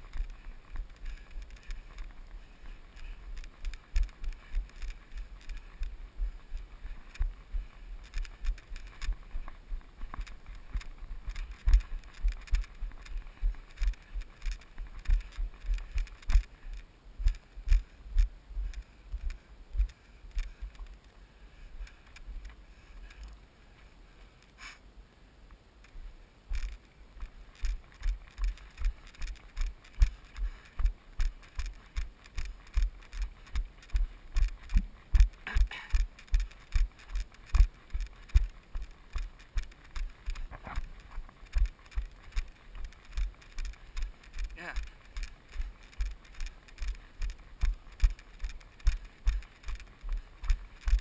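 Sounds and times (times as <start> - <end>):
running footsteps on gravel: 0.0 - 23.4, 25.9 - 51.0.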